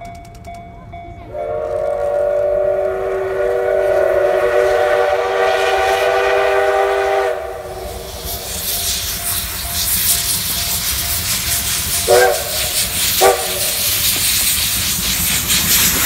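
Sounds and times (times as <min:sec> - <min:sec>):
steam locomotive whistle: 0:01.2 - 0:15.0
hissing steam: 0:01.4 - 0:16.0.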